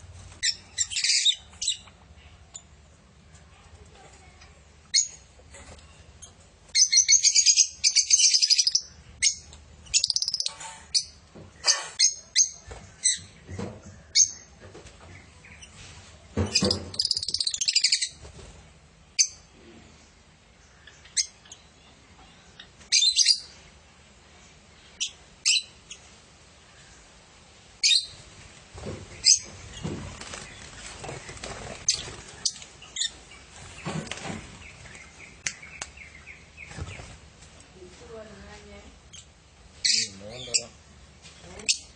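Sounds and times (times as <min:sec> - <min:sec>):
lovebirds chattering and shrieking: 0:00.1 - 0:03.0, 0:04.5 - 0:41.9.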